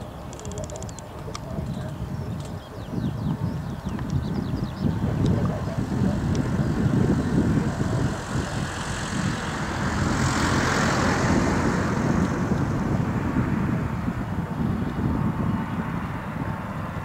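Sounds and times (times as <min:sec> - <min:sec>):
jet engines of landing airliner: 0:00.0 - 0:17.0
wind buffeting microphone: 0:00.0 - 0:17.0.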